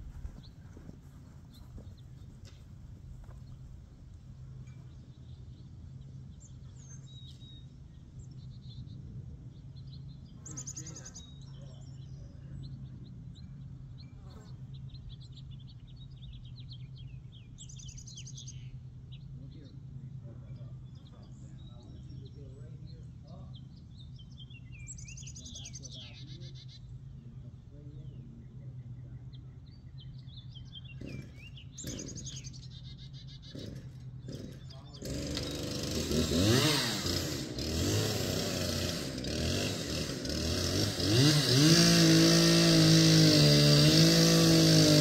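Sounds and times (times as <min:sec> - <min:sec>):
steady low hum: 0:00.0 - 0:43.1
songbirds chirping: 0:00.0 - 0:45.0.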